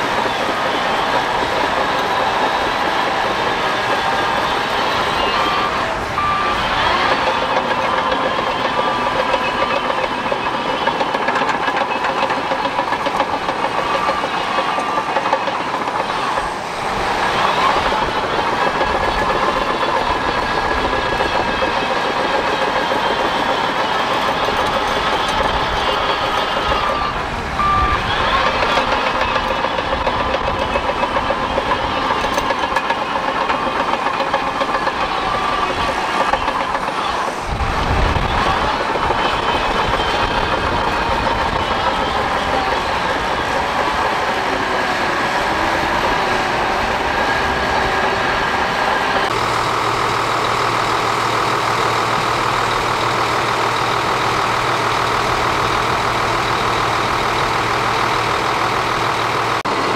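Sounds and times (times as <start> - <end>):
reversing alarm beeping: 0.0 - 58.3
diesel engine running: 0.0 - 59.9
steel tracks clanking: 0.0 - 59.9.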